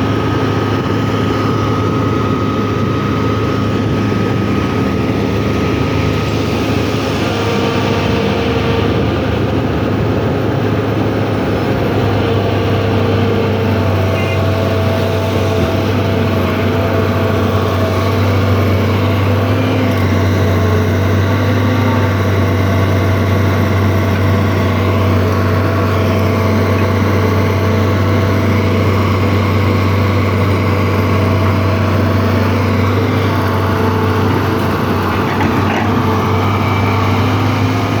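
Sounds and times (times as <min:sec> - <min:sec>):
excavator engine running: 0:00.0 - 0:38.0.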